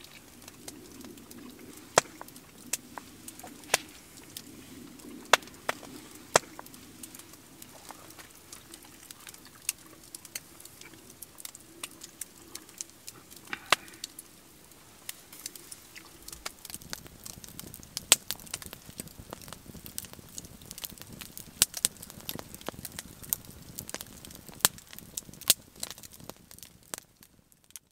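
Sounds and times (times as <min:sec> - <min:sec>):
sharp fire pops: 0:00.0 - 0:14.3, 0:15.1 - 0:27.8
campfire crackling: 0:00.0 - 0:27.9.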